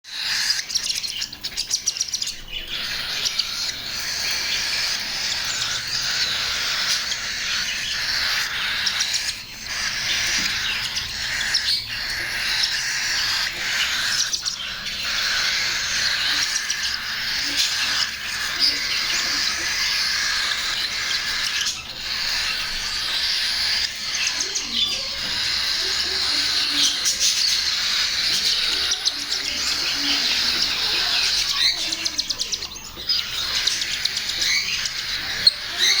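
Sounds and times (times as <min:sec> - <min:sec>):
chicks rasping begging chirps: 0:00.0 - 0:36.0.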